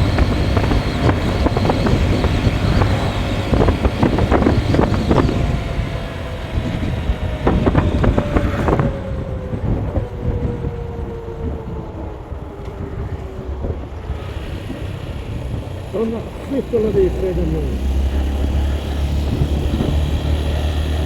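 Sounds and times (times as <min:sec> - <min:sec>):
road vehicle driving: 0:00.0 - 0:21.0
wind buffeting microphone: 0:00.0 - 0:21.0.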